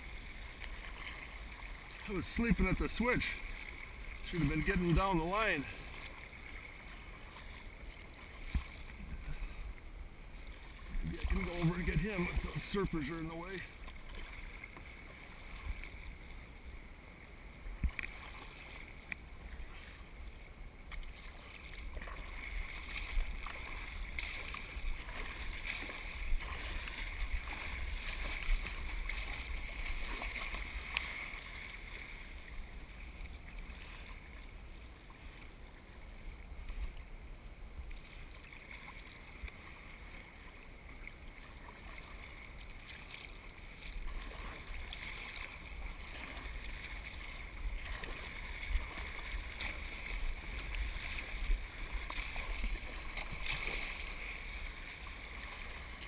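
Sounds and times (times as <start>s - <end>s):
water splashing around kayak: 0.0s - 56.0s.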